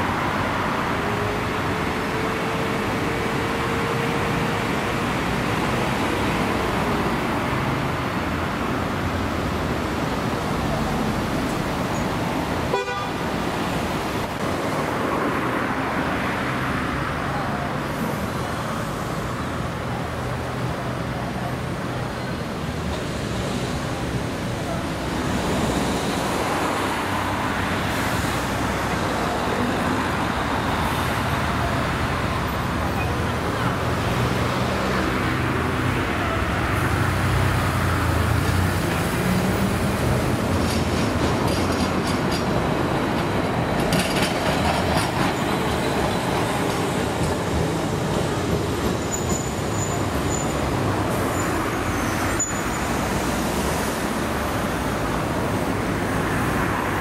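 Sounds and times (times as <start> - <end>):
bus running: 0.0 - 57.0
city street traffic: 0.0 - 57.0.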